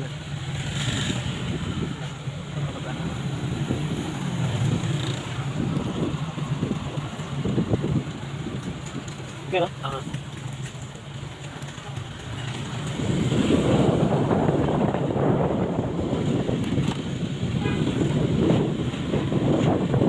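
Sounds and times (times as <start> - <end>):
vehicle engine running: 0.0 - 20.0
wind buffeting microphone: 0.0 - 20.0.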